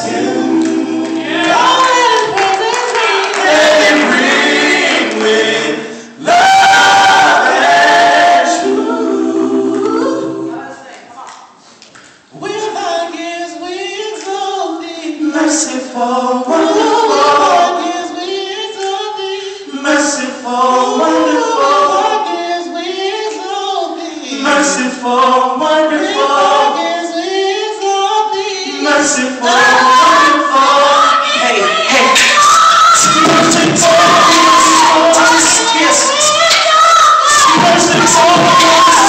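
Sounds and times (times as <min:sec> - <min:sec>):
a cappella group singing: 0:00.0 - 0:10.8, 0:12.3 - 0:39.0.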